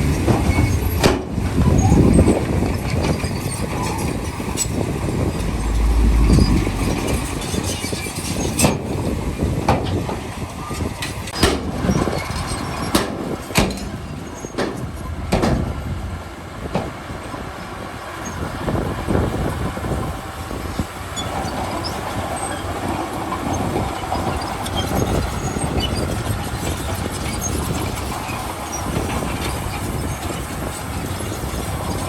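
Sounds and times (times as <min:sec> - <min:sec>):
bulldozer diesel engine running: 0:00.0 - 0:32.0
steel tracks clanking: 0:00.0 - 0:32.0.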